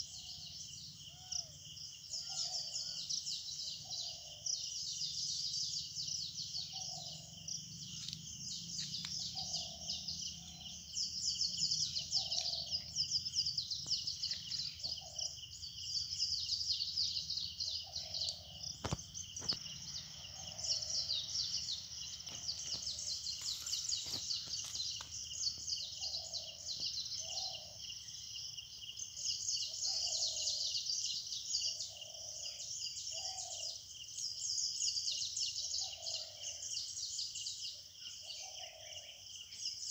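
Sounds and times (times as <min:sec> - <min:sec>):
birds and insects chirping: 0:00.0 - 0:39.9.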